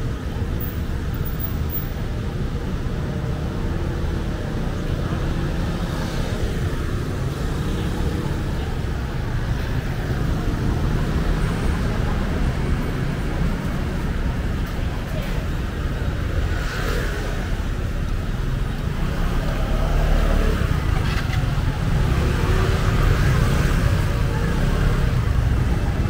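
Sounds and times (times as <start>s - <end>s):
road traffic hum: 0.0s - 26.0s
faint voices: 2.2s - 26.0s.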